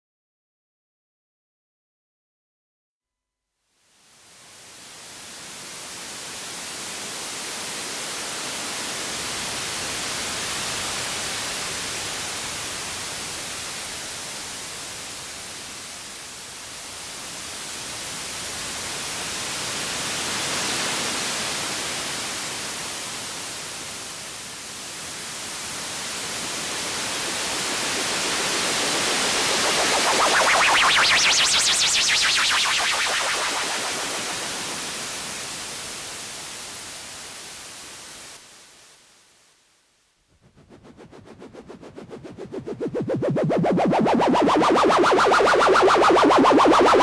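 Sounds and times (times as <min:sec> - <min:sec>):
synthesizer filtered white noise: 0:04.0 - 0:47.0.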